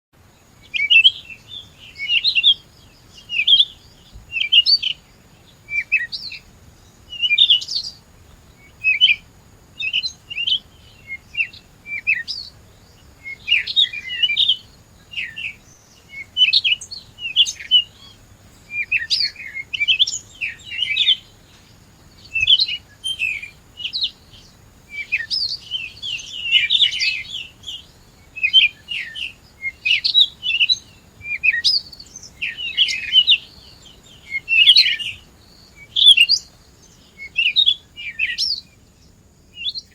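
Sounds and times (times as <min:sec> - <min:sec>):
songbird chirping: 0:00.2 - 0:39.9.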